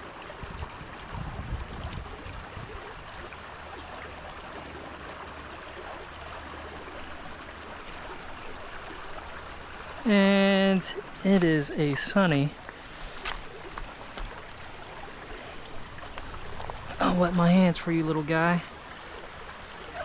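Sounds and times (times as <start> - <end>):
creek water over rocks: 0.0 - 20.0.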